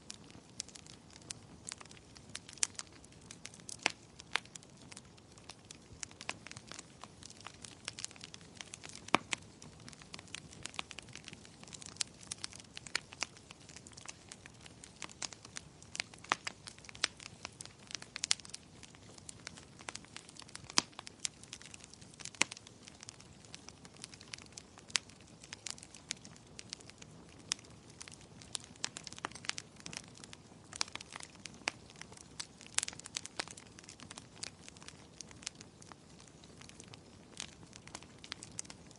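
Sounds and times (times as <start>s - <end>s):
gentle rain hiss: 0.0s - 38.9s
wood fire crackling and popping: 0.0s - 38.9s.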